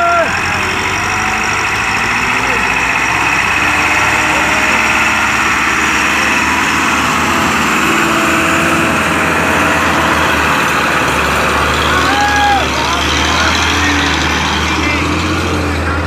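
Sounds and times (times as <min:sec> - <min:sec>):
diesel engines running under load: 0:00.0 - 0:16.0.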